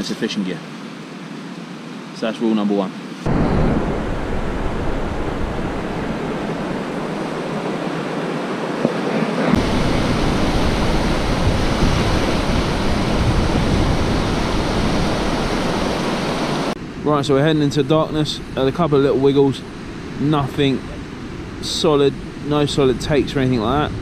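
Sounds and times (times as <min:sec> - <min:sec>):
waves washing over shingle: 0:03.3 - 0:24.0.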